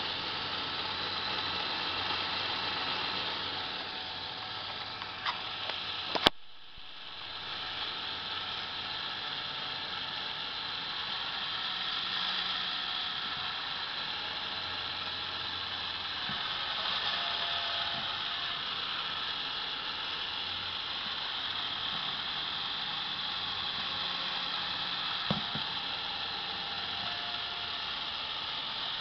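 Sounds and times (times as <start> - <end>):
motor-driven gear whir: 0.0 - 29.0.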